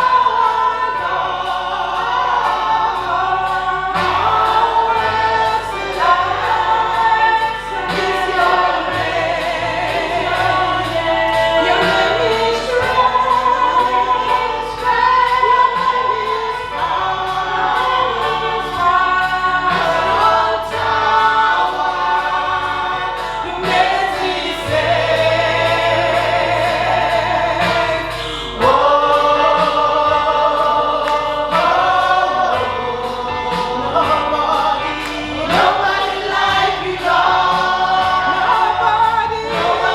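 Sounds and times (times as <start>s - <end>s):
choir singing gospel song: 0.0s - 39.9s
instrumental backing: 0.0s - 39.9s.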